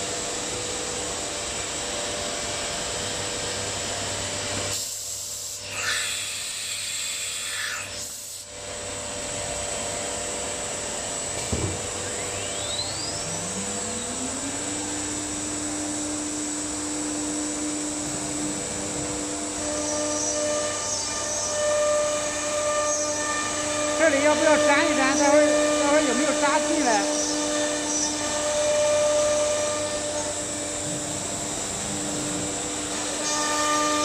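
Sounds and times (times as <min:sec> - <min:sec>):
cnc router machine hum: 0:00.0 - 0:34.0.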